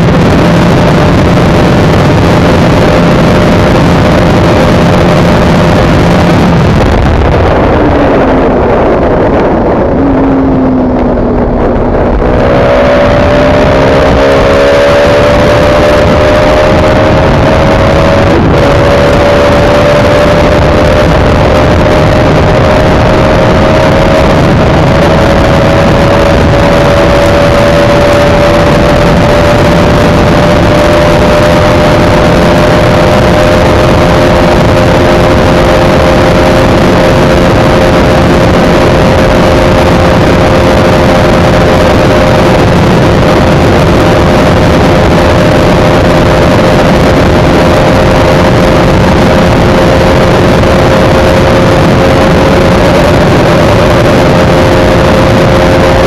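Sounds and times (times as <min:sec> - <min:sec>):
motorcycle engine at high revs: 0:00.0 - 0:56.0
wind rush over microphone: 0:00.0 - 0:56.0.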